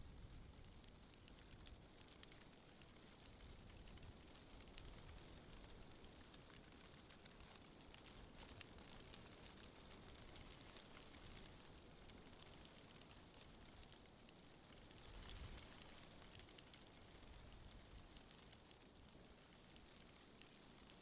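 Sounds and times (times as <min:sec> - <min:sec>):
light ticks and rustles: 0:00.0 - 0:21.0
soft wind rumble and hiss: 0:00.0 - 0:21.0.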